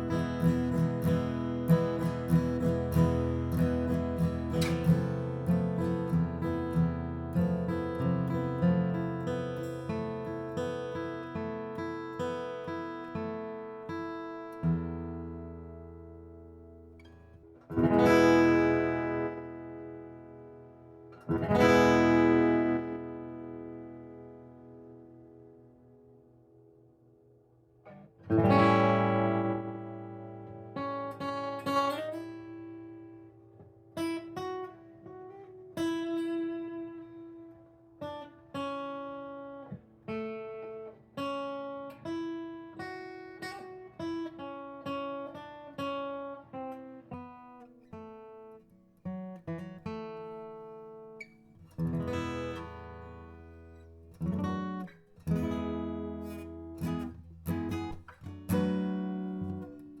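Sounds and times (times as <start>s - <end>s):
solo acoustic guitar: 0.0s - 60.0s.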